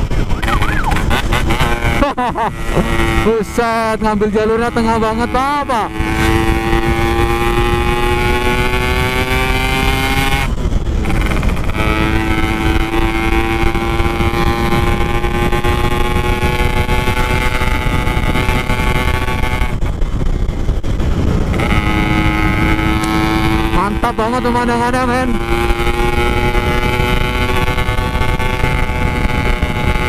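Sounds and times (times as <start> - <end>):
motorcycle engine at speed: 0.0 - 30.0
wind rumble: 0.0 - 30.0.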